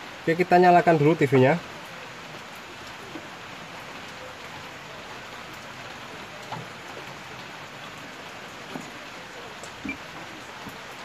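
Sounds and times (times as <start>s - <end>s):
light rain pattering: 0.0s - 11.0s.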